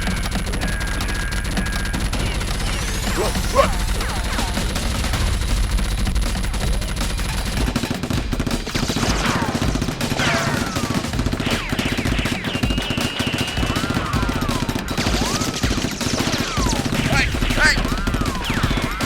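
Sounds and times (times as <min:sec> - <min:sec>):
rapid automatic gunfire: 0:00.0 - 0:19.0.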